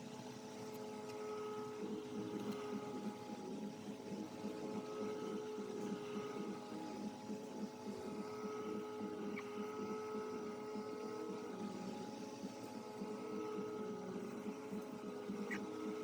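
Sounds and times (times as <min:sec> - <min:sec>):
machine hum with held tones: 0:00.0 - 0:16.0.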